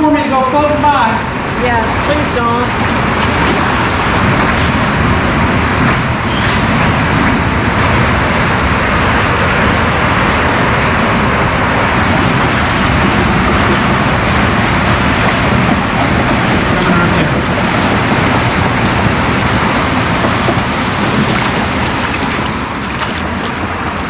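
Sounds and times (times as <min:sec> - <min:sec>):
water rushing through culvert: 0:00.3 - 0:24.0.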